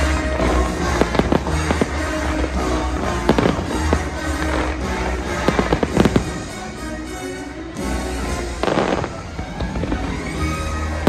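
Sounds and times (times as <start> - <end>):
fireworks bangs: 0.0 - 11.0
loud show music: 0.0 - 11.0.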